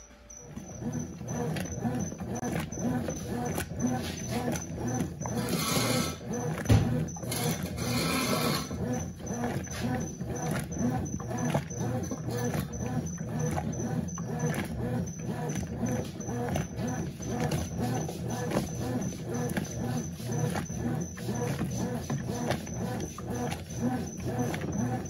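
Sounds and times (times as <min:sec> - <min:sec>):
washing machine motor hum: 0:00.0 - 0:25.0.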